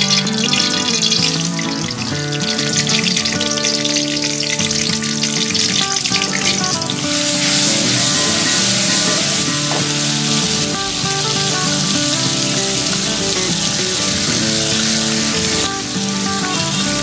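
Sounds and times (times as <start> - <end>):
background music: 0.0 - 17.0
paste sizzling in hot oil: 0.0 - 17.0.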